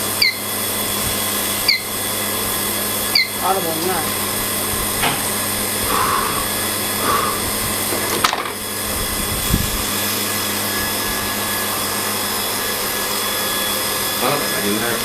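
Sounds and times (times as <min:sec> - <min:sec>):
welding equipment humming: 0:00.0 - 0:15.0.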